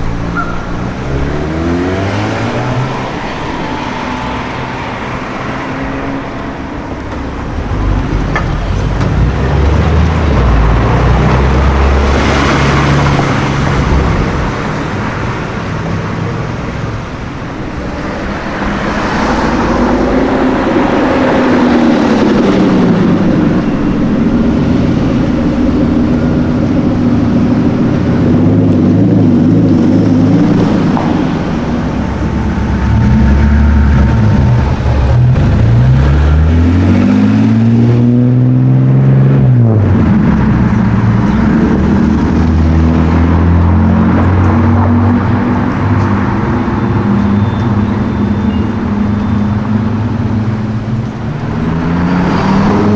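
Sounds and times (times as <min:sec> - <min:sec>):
cars passing by: 0:00.0 - 0:52.9
engine revving: 0:00.0 - 0:52.9
sports car engines and exhausts: 0:00.0 - 0:52.9.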